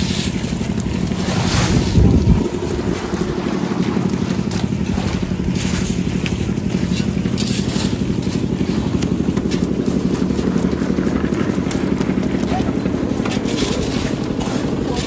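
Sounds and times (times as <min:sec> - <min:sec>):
small engine running: 0:00.0 - 0:15.0
wet concrete scraping and slopping: 0:00.0 - 0:15.0.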